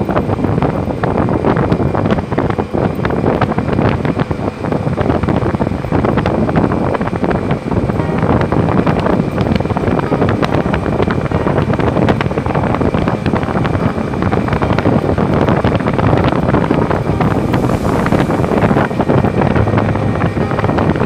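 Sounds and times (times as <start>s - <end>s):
vehicle running: 0.0s - 21.0s
wind buffeting microphone: 0.0s - 21.0s.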